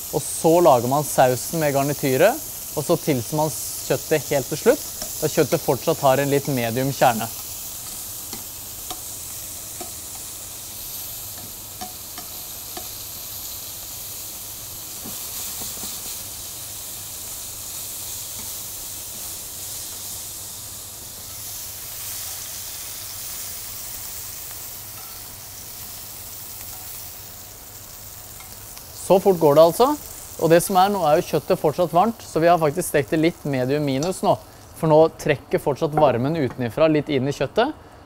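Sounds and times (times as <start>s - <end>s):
meat sizzling in a frying pan: 0.0s - 36.6s.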